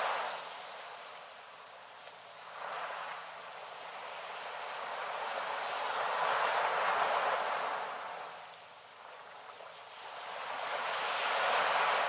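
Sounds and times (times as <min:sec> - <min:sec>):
waves washing on sandy beach: 0:00.0 - 0:12.0.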